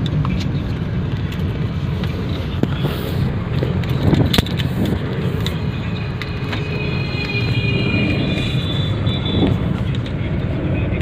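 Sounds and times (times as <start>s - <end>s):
vehicle and road noise: 0.0s - 11.0s
high steady whine: 0.6s - 11.0s.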